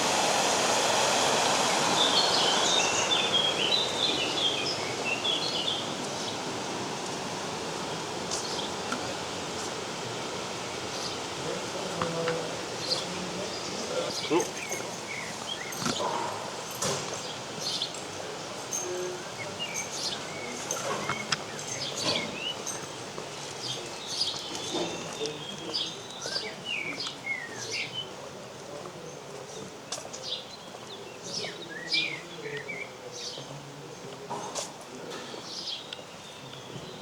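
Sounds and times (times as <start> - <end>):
songbirds chirping and whistling: 1.6 - 6.6, 10.6 - 34.2, 35.1 - 37.0.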